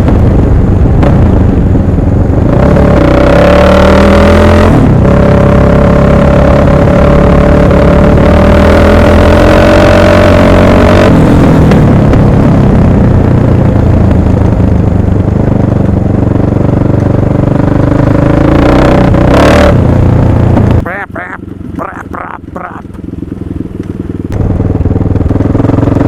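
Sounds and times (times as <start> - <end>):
dirt bike engine running hard: 0.0 - 26.0.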